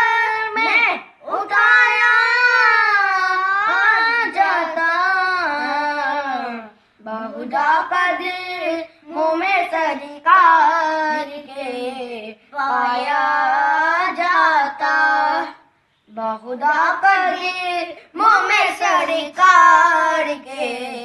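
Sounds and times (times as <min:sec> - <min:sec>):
boys singing unaccompanied: 0:00.0 - 0:21.0.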